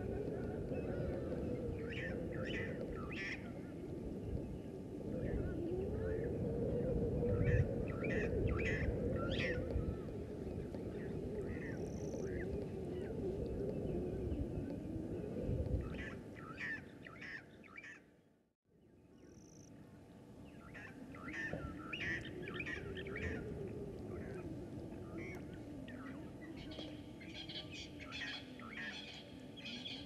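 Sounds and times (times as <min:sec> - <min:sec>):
low wavering drone: 0:00.0 - 0:17.1, 0:19.0 - 0:30.0.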